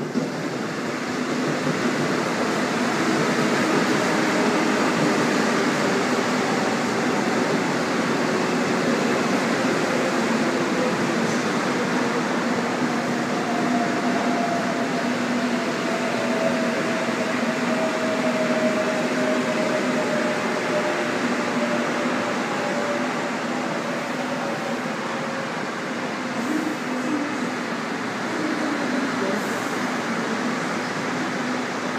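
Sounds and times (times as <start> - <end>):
electric train whine: 0.0 - 31.9
wheels rumbling on rail: 0.0 - 31.9.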